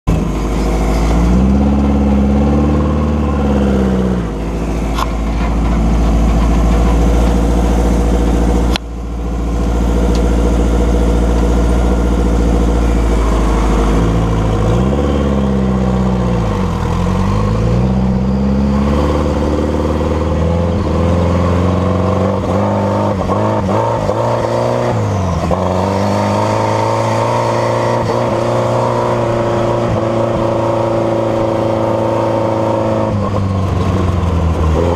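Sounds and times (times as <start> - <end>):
turbocharged engine running: 0.0 - 34.9.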